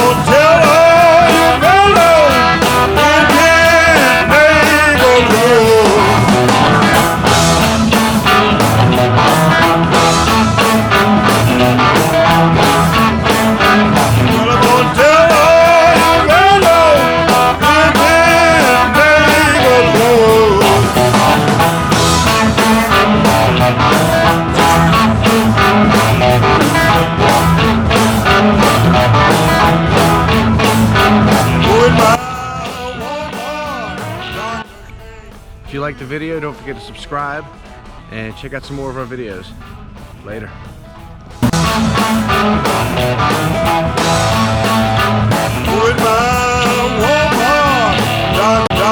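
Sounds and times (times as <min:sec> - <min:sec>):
rock music with singing: 0:00.0 - 0:48.9.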